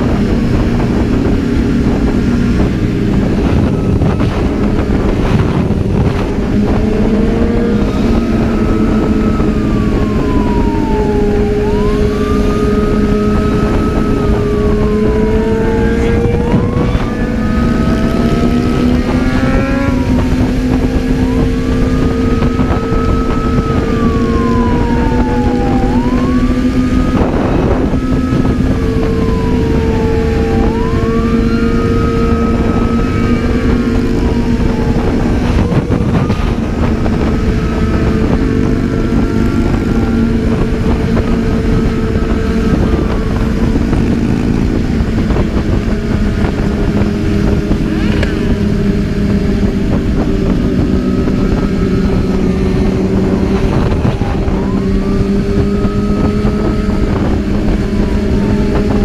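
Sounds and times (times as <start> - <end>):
motorcycle engine running: 0.0 - 59.0
police siren wailing: 0.0 - 59.0
wind rushing on microphone: 0.0 - 59.0.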